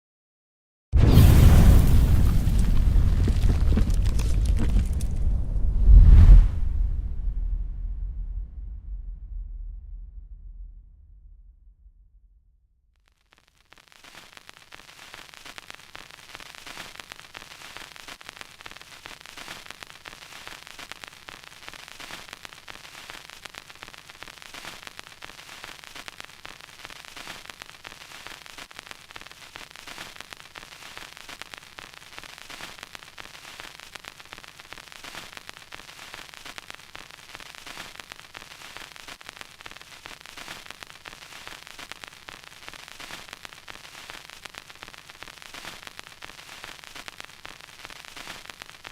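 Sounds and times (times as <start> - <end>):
vinyl record crackle: 1.0 - 6.5, 13.0 - 48.9.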